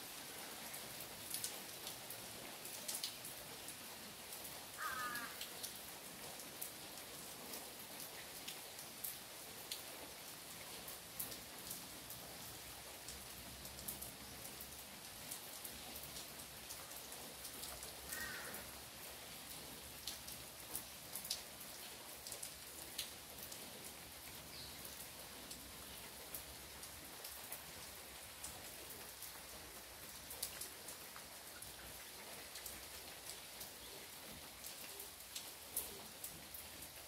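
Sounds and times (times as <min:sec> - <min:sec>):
rain hiss: 0:00.0 - 0:37.0
raindrops ticking on surface: 0:00.0 - 0:37.0.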